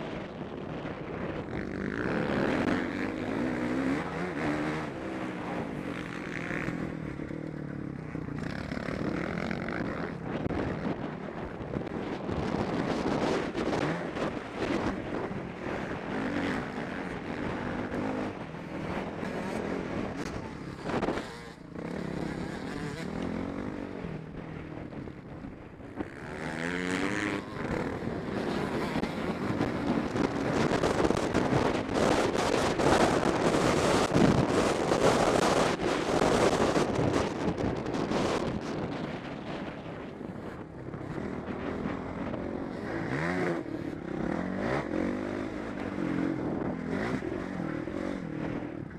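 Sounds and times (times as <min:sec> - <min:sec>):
wind noise on microphone: 0:00.0 - 0:48.9
motorcycle engine revving: 0:00.1 - 0:48.9.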